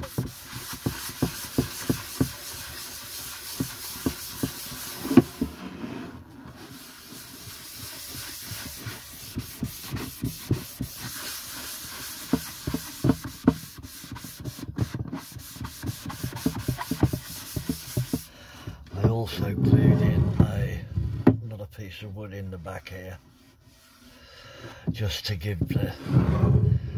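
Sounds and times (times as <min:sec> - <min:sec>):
cloth scrubbing wood: 0:00.0 - 0:21.1, 0:22.6 - 0:24.1.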